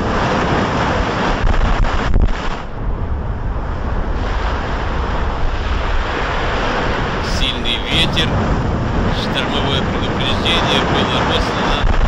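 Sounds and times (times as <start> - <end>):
heavy ocean surf: 0.0 - 12.0
storm wind on microphone: 0.0 - 12.0.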